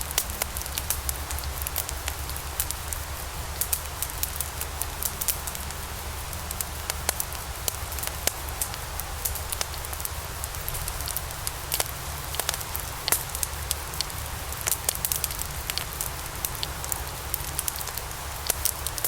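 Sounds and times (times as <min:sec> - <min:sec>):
flames rumbling and hissing: 0:00.0 - 0:19.0
wood fire crackling and popping: 0:00.0 - 0:19.0.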